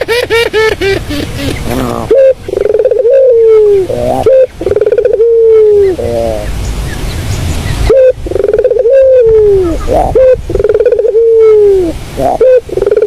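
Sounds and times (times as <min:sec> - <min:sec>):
dove cooing: 0:00.0 - 0:06.5, 0:07.9 - 0:13.0.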